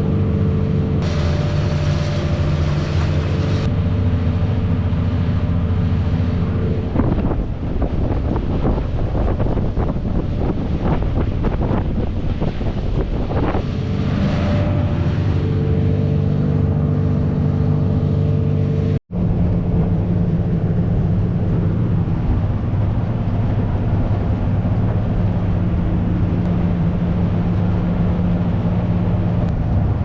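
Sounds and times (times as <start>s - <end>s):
boat engine running: 0.0s - 30.0s
wind buffeting microphone: 0.0s - 30.0s.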